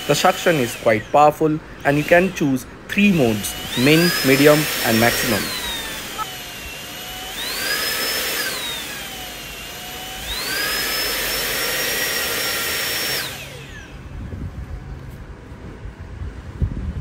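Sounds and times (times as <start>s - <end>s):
vacuum motor whine: 0.0s - 15.3s.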